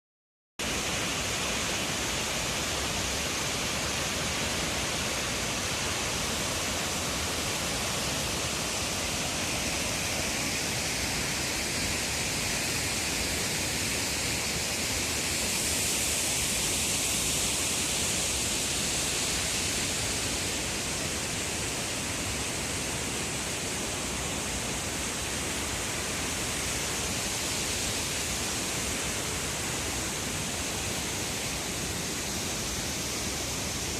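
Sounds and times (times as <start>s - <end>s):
waterfall rushing: 0.6s - 33.9s.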